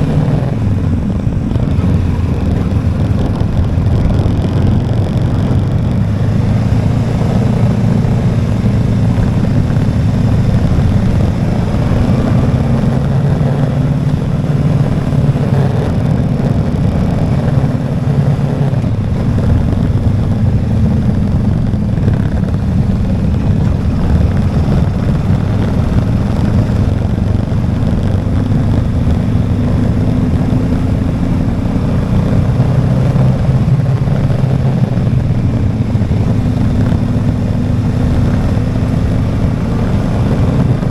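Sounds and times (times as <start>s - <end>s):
motorcycle engine hum: 0.0s - 40.9s.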